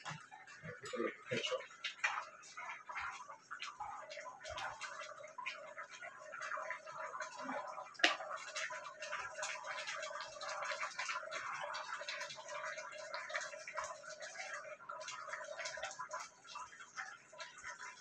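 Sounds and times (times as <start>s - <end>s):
gravy bubbling and sizzling: 0.0s - 18.0s.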